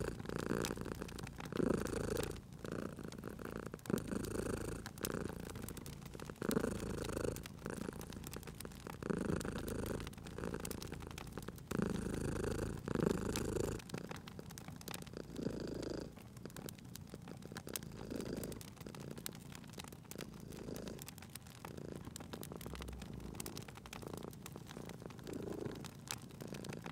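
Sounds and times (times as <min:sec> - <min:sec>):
cat purring: 0:00.0 - 0:26.9
fire crackling: 0:00.0 - 0:26.9.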